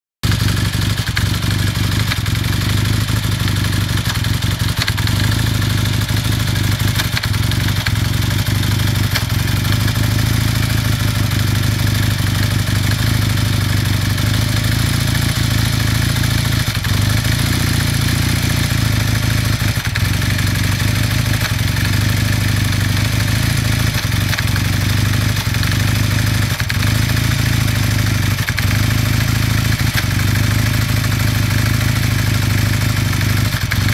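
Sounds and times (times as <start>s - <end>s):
motorcycle engine idling with knocking: 0.2s - 33.9s.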